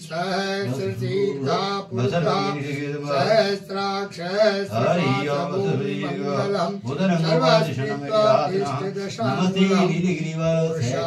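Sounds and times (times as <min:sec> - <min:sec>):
man chanting mantras: 0:00.0 - 0:11.0.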